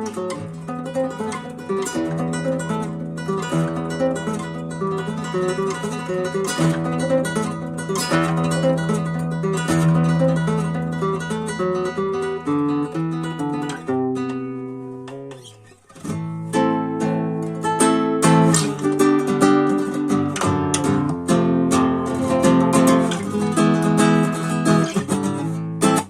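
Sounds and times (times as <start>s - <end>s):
classical guitar plucked notes: 0.0s - 26.0s.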